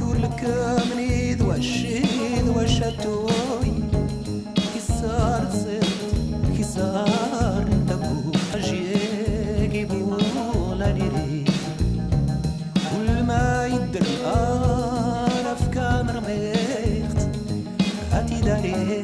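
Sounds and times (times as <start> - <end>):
pop song with drums and vocals: 0.0 - 19.0.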